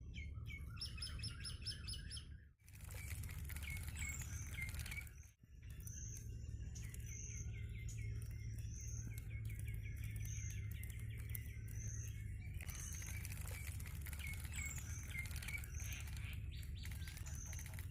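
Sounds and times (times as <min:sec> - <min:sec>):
low rumble of wind: 0:00.0 - 0:17.9
birds chirping and calling: 0:00.1 - 0:17.9.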